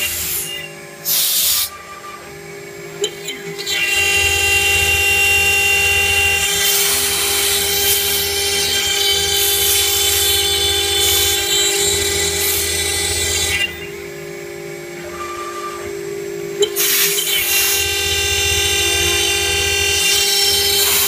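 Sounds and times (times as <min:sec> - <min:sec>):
router spindle whine: 0:00.0 - 0:21.0.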